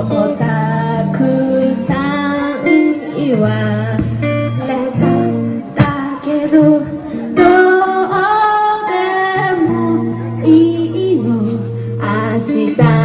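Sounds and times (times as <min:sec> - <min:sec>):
guitar: 0:00.0 - 0:13.0
person singing long sliding notes: 0:00.0 - 0:13.0.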